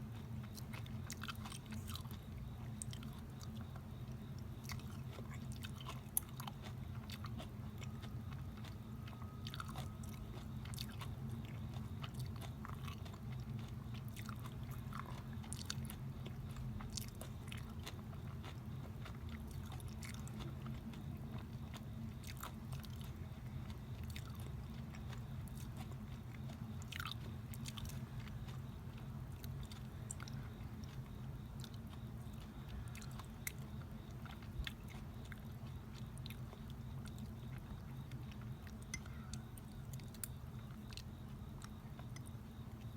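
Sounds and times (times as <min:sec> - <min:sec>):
chewing with mouth clicks: 0:00.0 - 0:42.9
steady low hum: 0:00.0 - 0:42.9.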